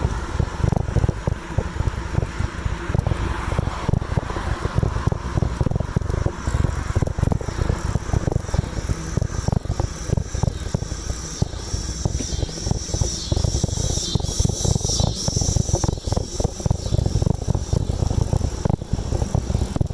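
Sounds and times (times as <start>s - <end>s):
high steady whine: 0.0s - 19.9s
wind buffeting microphone: 0.0s - 19.9s.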